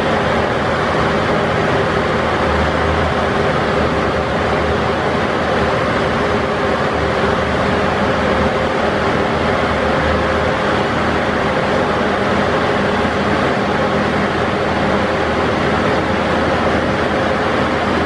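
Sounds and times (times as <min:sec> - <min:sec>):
trolleybus machine noise: 0:00.0 - 0:18.0.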